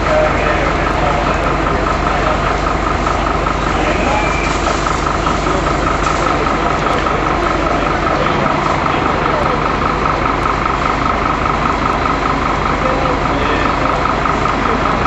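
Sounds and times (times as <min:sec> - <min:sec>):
diesel engine running: 0:00.0 - 0:15.0
high pump whine: 0:00.0 - 0:15.0.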